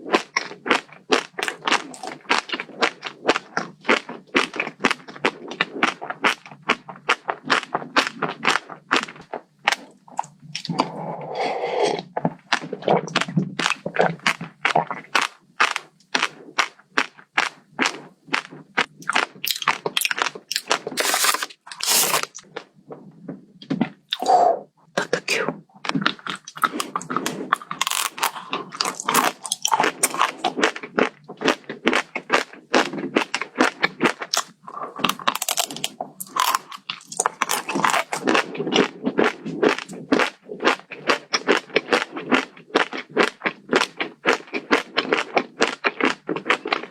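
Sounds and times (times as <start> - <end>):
person chewing crunchy food: 0.0 - 22.8, 23.7 - 46.9.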